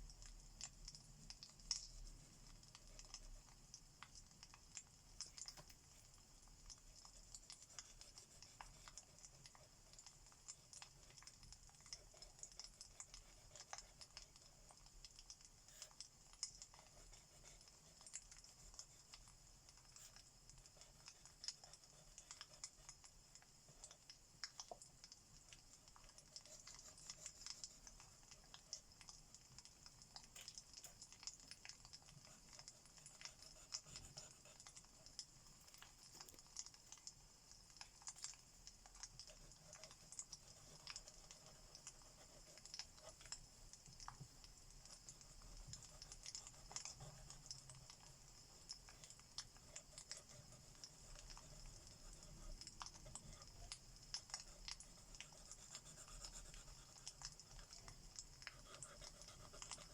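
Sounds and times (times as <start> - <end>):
soft steady hiss: 0.0 - 59.9.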